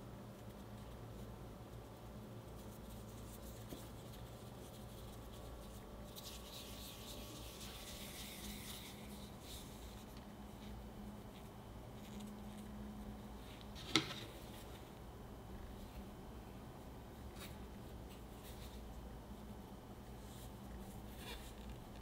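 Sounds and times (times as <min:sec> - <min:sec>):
low steady hum: 0:00.0 - 0:22.0
soft rustling of dough: 0:00.0 - 0:22.0.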